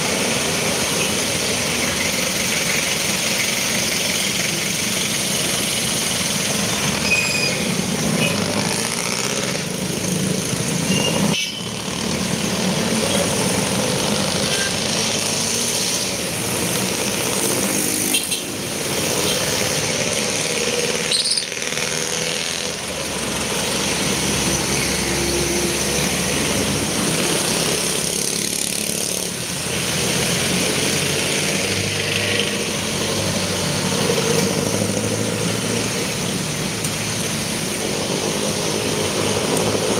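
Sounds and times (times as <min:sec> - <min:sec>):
dense traffic engine rumble: 0:00.0 - 0:39.9.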